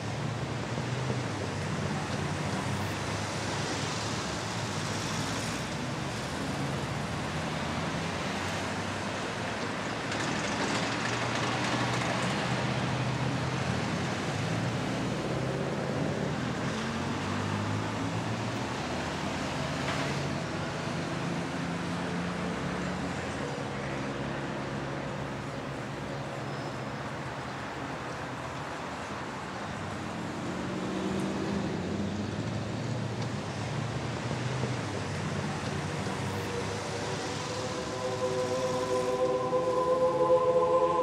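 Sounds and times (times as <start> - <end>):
street traffic hum: 0.0 - 41.0.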